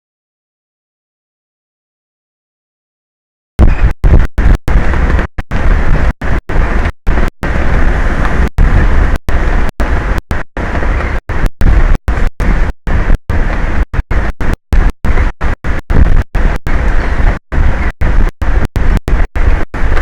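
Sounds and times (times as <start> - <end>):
wind rumble on microphone: 3.6 - 20.0.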